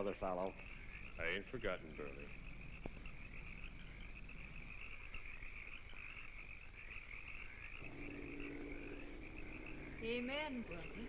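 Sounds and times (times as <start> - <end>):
frog chorus trilling: 0.0 - 11.0
low multi-tone hum: 0.0 - 11.0.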